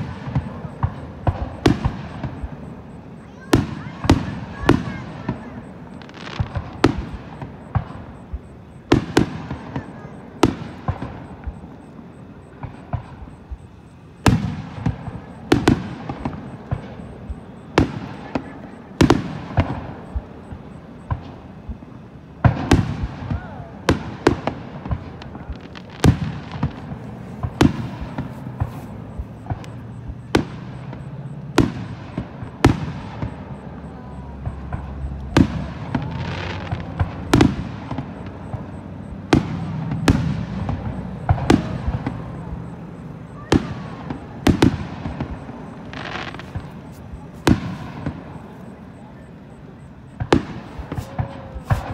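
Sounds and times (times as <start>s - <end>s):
firework shells booming: 0.0s - 51.9s.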